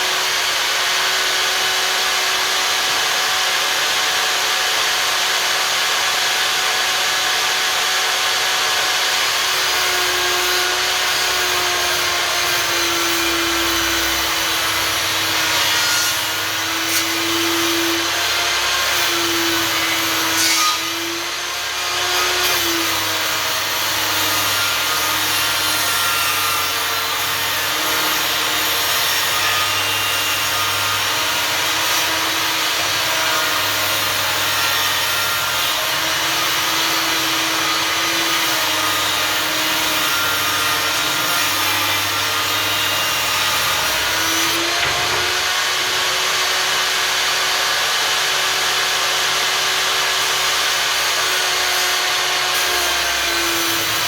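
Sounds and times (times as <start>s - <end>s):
table saw cutting wood: 0.0s - 54.0s.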